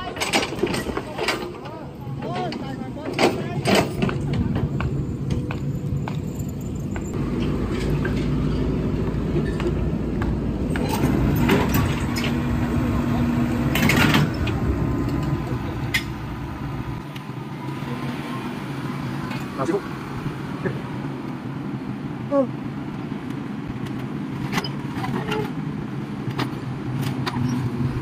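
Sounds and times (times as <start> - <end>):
heavy vehicle engine rumbling: 0.0 - 28.0
passing road traffic: 0.0 - 28.0.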